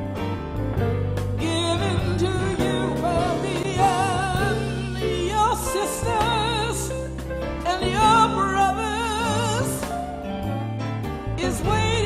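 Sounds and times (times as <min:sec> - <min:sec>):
band playing: 0:00.0 - 0:12.0
held bass notes: 0:00.0 - 0:12.0
person singing with vibrato: 0:01.4 - 0:12.0.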